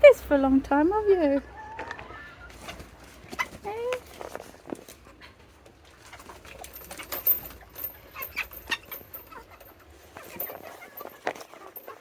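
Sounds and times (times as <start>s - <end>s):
chickens clucking: 1.0s - 12.0s.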